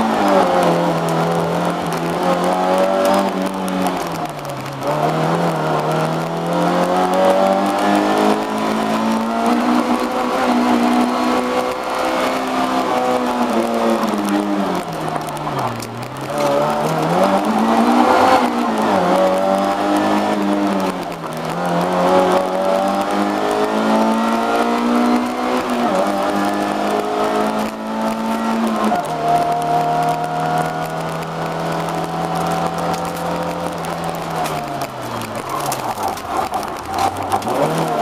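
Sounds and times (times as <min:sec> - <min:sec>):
racing engine revving: 0:00.0 - 0:38.0.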